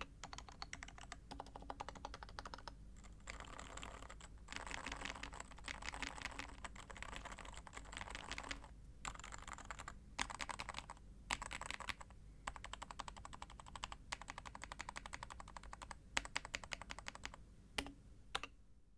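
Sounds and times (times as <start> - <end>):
muted keyboard typing: 0.0 - 18.5.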